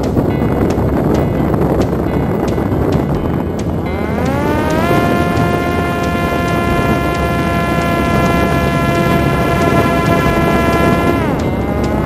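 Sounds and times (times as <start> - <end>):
drone motor and propeller whining: 0.0 - 12.0
wind rumbling on microphone: 0.0 - 12.0.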